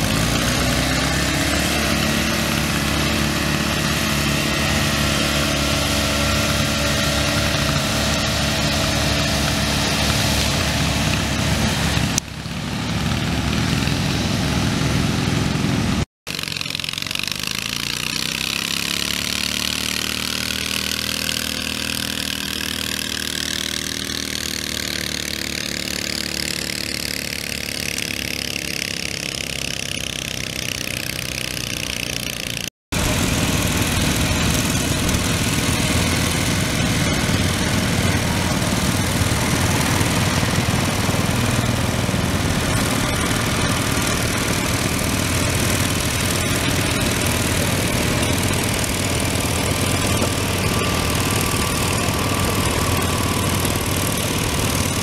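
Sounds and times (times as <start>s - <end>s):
small tractor engine running hard: 0.0s - 55.0s.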